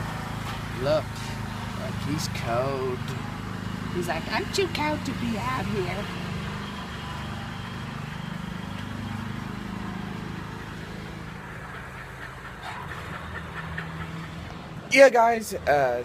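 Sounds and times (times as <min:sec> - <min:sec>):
riding lawnmower engine running: 0:00.0 - 0:16.0.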